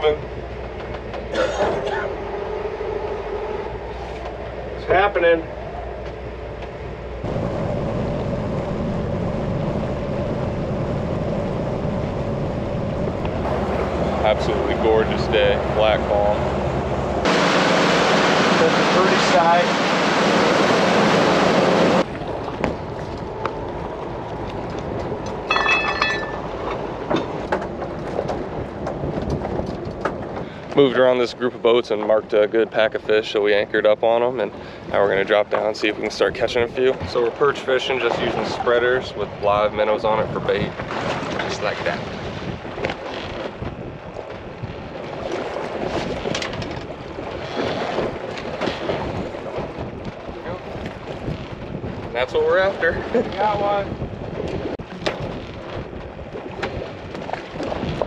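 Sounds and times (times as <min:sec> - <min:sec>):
boat engine running: 0:00.0 - 0:58.0
wind and water rushing: 0:00.0 - 0:58.0.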